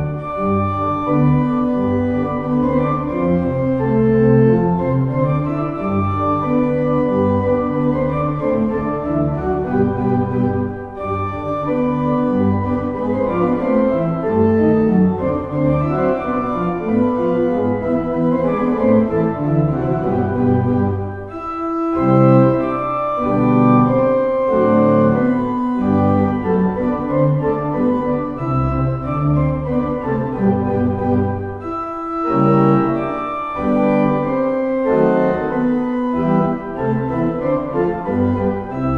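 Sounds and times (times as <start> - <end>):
pipe organ pedal notes: 0.0 - 38.9.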